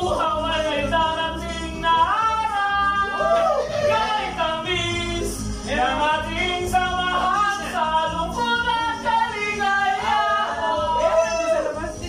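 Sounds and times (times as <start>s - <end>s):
karaoke backing track: 0.0s - 12.0s
person singing karaoke: 0.0s - 12.0s.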